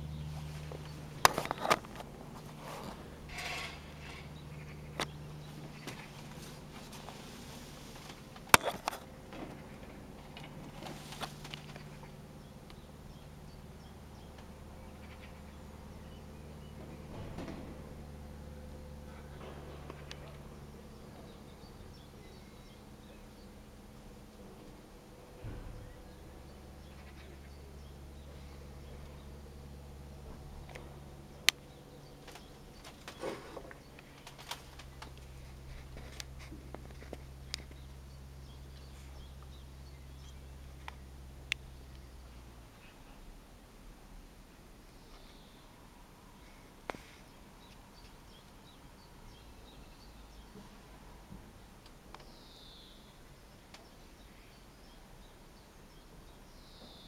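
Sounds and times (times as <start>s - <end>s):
distant propeller plane drone: 0.0s - 57.0s.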